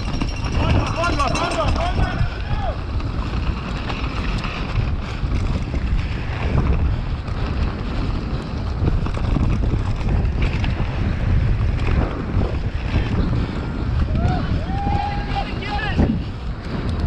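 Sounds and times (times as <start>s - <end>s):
bike clicks and knocks: 0.0s - 14.4s, 16.4s - 17.0s
wind buffeting microphone: 0.0s - 17.0s.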